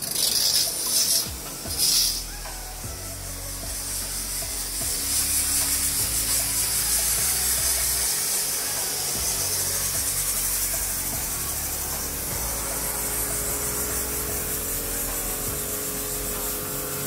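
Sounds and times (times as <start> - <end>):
pressure washer jet hissing: 0.0 - 17.0.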